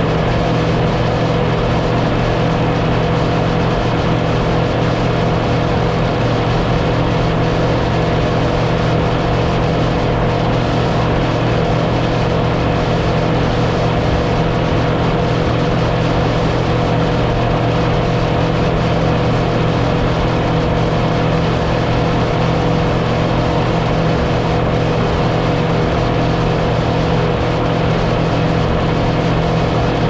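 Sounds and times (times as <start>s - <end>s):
motorboat engine droning: 0.0s - 30.0s.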